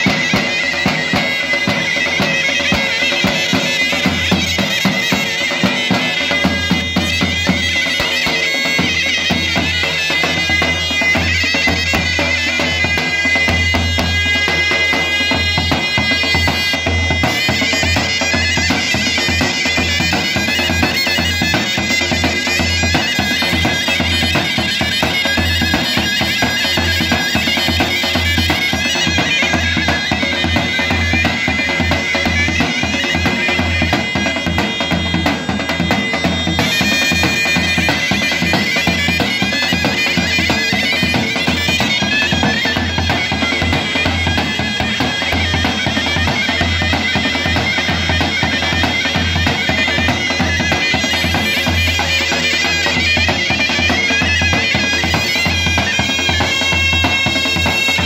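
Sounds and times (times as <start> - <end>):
double-reed shawms playing melody: 0.0 - 58.0.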